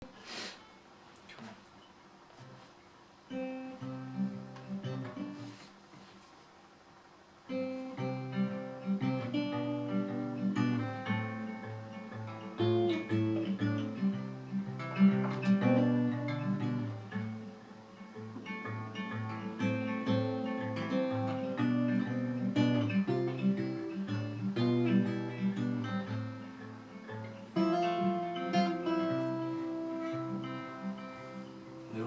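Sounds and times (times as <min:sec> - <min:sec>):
acoustic guitar playing: 0:02.3 - 0:06.4, 0:07.4 - 0:32.0.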